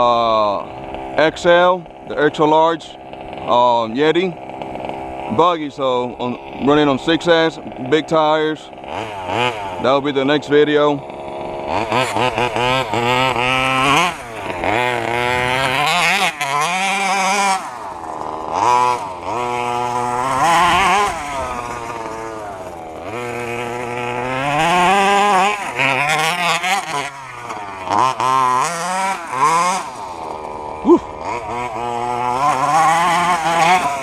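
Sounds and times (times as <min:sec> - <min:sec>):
two-stroke engine revving: 0:00.0 - 0:34.0.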